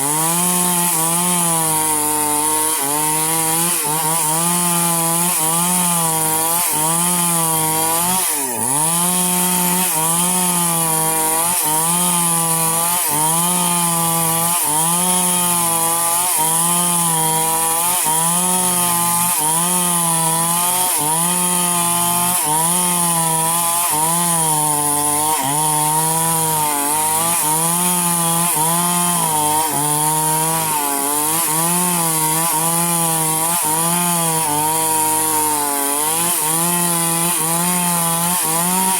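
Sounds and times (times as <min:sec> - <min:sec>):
chainsaw cutting through wood: 0:00.0 - 0:38.9.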